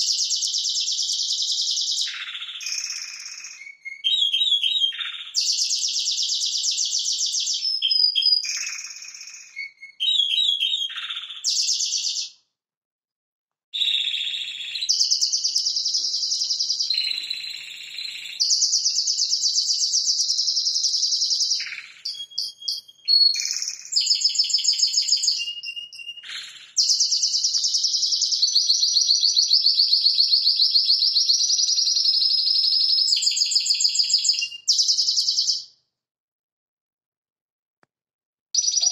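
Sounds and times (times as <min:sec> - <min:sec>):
canary singing trills: 0:00.0 - 0:12.3, 0:13.8 - 0:35.6, 0:38.6 - 0:38.9.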